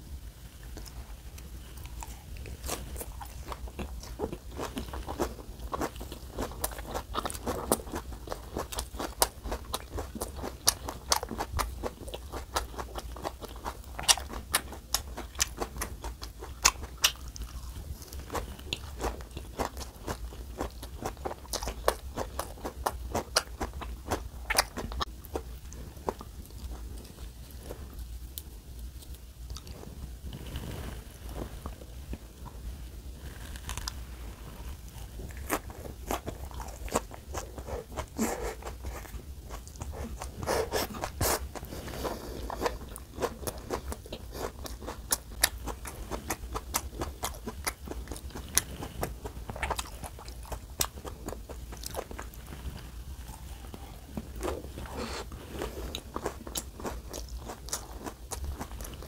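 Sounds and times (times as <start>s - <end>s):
person crunching raw vegetables: 0.7s - 27.2s, 33.2s - 59.0s.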